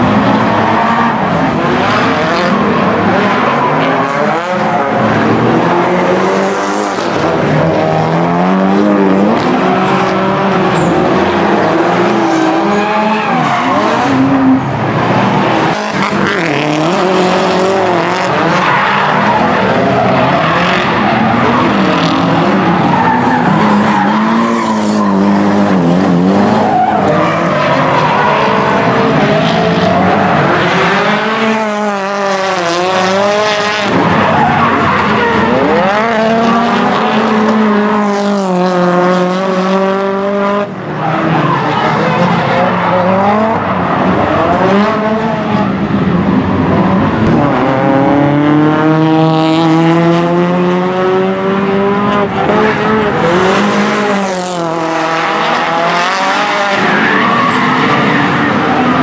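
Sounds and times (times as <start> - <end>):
tyres squealing and skidding: 0.0 - 7.3, 9.1 - 38.1, 40.8 - 46.0, 52.2 - 59.0
car engines revving: 0.0 - 59.0.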